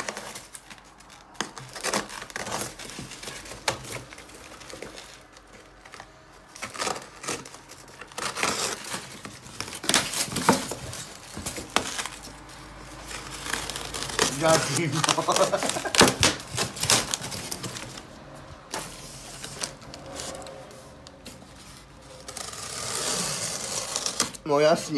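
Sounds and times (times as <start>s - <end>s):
cardboard and foam rustling: 0.0s - 24.9s.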